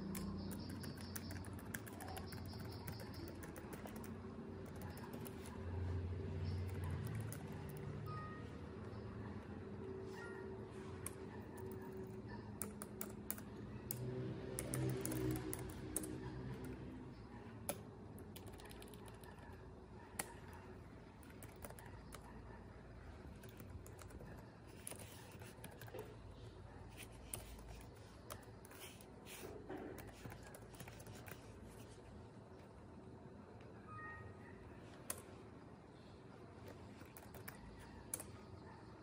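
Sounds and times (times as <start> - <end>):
laptop keyboard typing: 0.0 - 9.7, 10.9 - 26.2, 26.9 - 32.0, 36.6 - 38.6.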